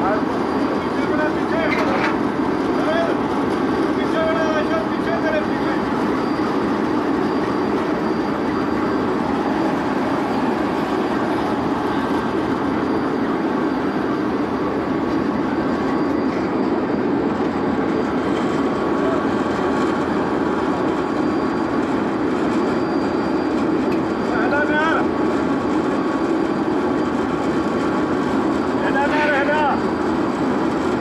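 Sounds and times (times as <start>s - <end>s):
diesel locomotive engine running: 0.0s - 31.0s.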